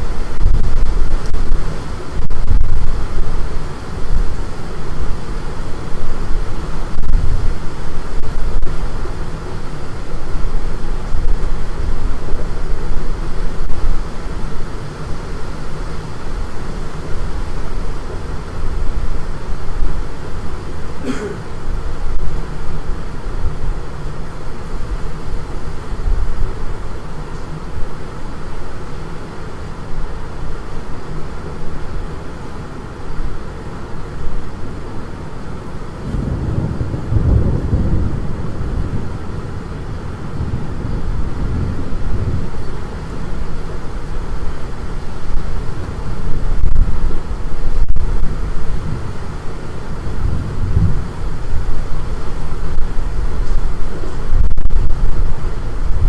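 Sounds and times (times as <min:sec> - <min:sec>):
storm wind buffeting microphone: 0:00.0 - 0:56.0.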